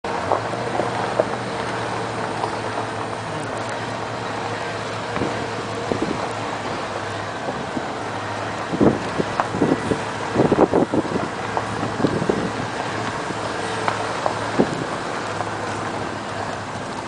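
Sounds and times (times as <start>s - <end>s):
truck engine humming: 0.0s - 17.0s
wind and road noise: 0.0s - 17.0s.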